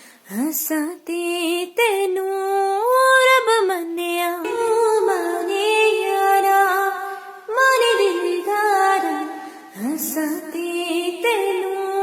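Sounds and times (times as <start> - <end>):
woman singing without words: 0.2 - 12.0.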